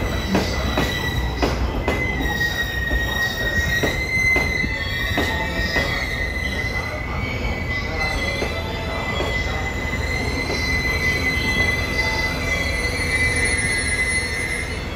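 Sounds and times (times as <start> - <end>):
train running rumble: 0.0 - 14.9
train wheels squealing: 0.0 - 14.9.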